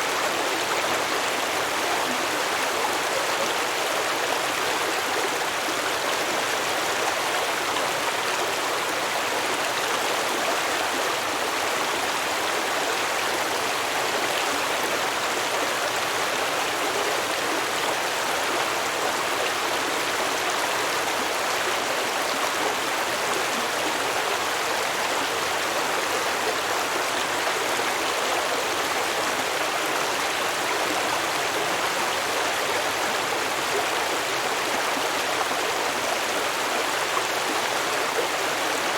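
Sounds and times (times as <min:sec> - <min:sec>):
stream water babbling over rocks: 0:00.0 - 0:38.9.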